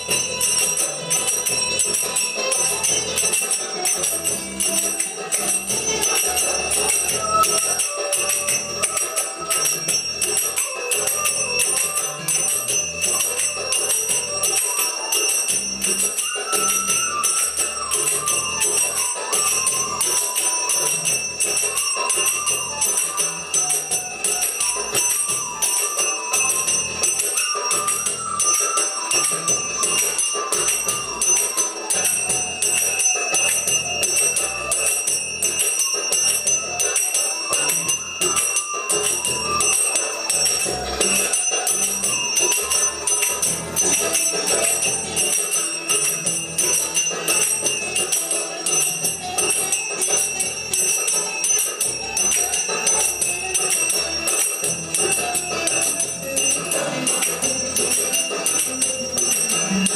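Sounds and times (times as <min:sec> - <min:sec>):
background music with melody: 0:00.0 - 0:59.9
finger cymbals ringing: 0:00.0 - 0:59.9.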